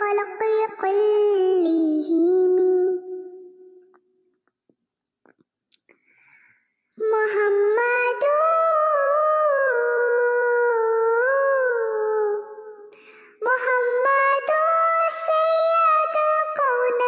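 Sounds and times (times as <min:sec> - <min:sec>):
high singing voice: 0:00.0 - 0:04.2, 0:07.0 - 0:17.0.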